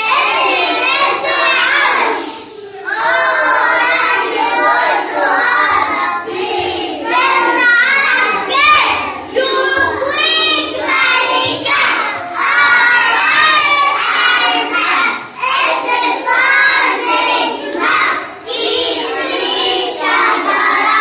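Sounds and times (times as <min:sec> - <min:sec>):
young children singing: 0:00.0 - 0:21.0.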